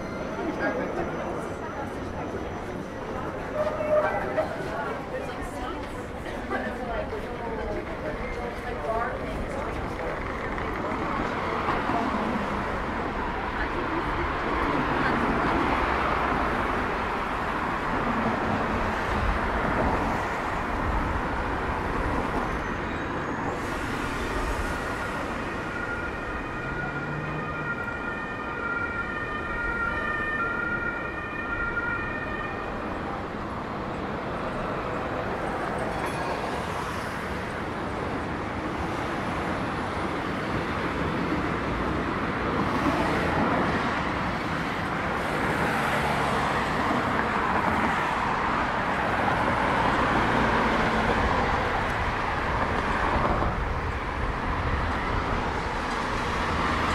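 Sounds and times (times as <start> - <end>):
cars and trams passing: 0.0 - 56.9.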